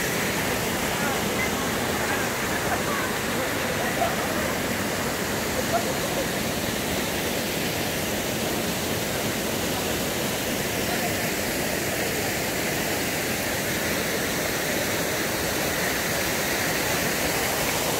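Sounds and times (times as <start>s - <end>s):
waterfall roaring over rock: 0.0s - 17.9s.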